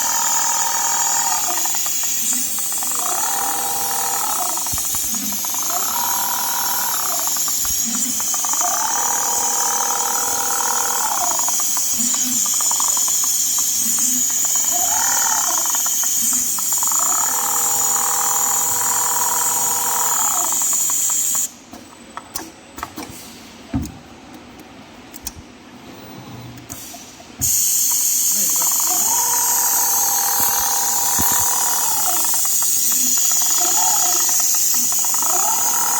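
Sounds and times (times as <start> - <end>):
sewing machine motor whine: 0.0 - 21.5, 27.4 - 35.9.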